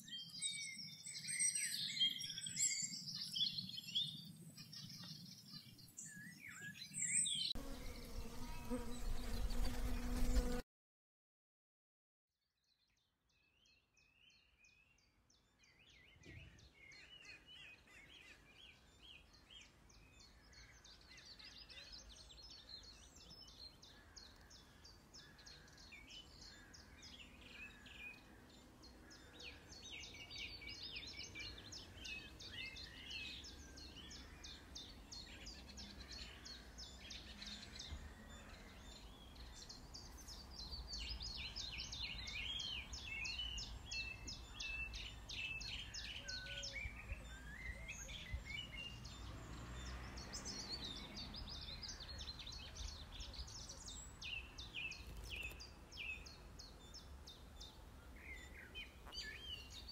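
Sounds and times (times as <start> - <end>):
songbirds chirping: 0.0 - 10.6, 13.0 - 59.9.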